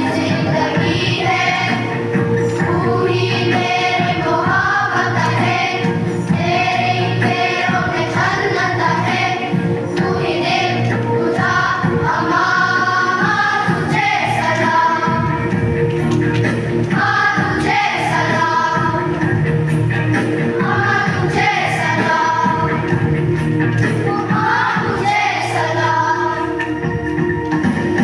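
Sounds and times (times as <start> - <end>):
choir singing: 0.0 - 15.6, 16.9 - 19.4, 20.4 - 23.0, 24.0 - 26.7
instrumental accompaniment: 0.0 - 28.0.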